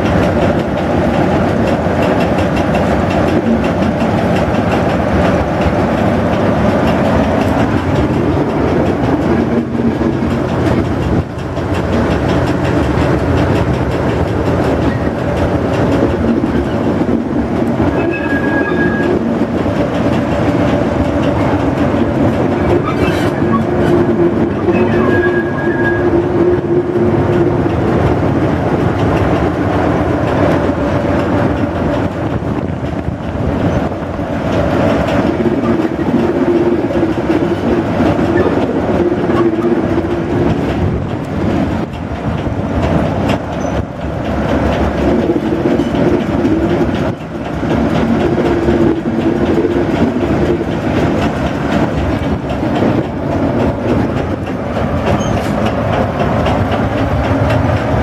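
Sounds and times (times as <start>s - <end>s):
diesel locomotive engine droning: 0.0s - 58.0s
train wheels clacking on rails: 0.0s - 58.0s.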